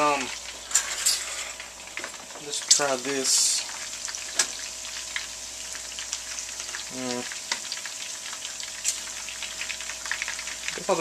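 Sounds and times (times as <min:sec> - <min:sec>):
chicken sizzling in grease: 0:00.0 - 0:11.0.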